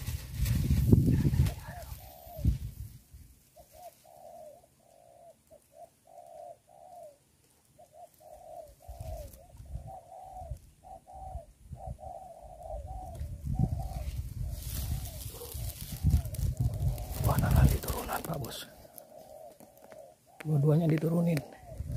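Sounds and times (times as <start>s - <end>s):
dove cooing: 1.0s - 2.8s, 3.6s - 21.9s.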